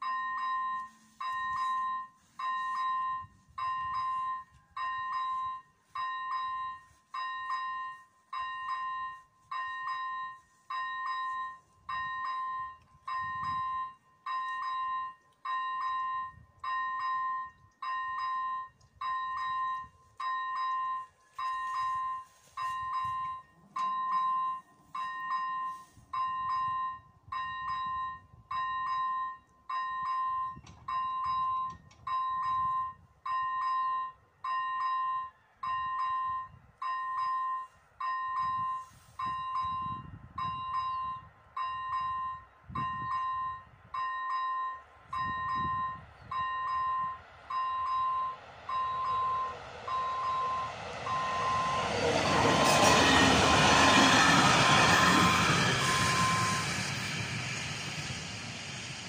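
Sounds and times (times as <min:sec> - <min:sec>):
level crossing electronic bell: 0:00.0 - 0:56.8
approaching train: 0:00.0 - 0:59.0.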